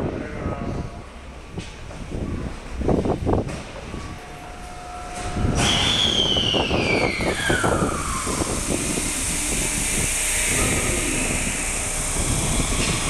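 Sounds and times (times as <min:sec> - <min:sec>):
subway train motor whine: 0:00.0 - 0:13.0
wheel and rail rumble: 0:00.0 - 0:13.0.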